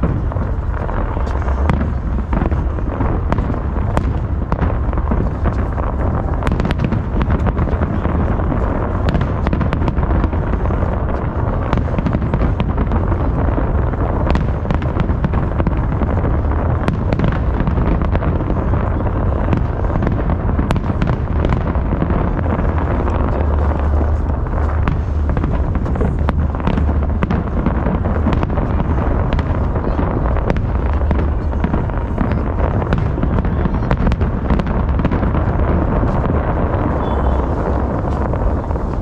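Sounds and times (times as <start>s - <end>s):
firework booms: 0.0s - 39.0s
firework crackles and pops: 0.0s - 39.0s.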